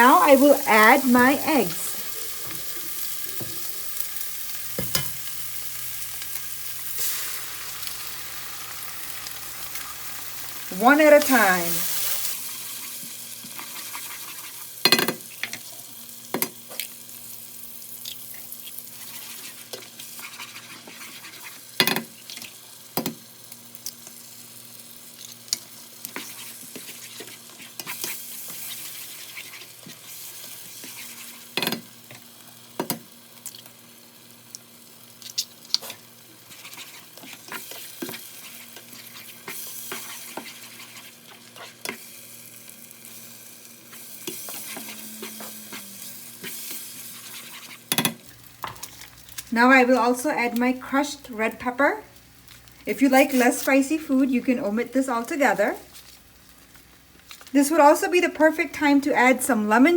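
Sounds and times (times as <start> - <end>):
vegetables sizzling in hot oil: 0.0 - 59.9.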